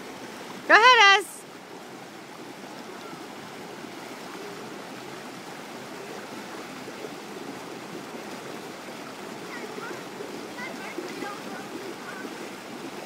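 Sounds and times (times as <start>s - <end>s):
stream water rushing over rock: 0.0s - 13.0s.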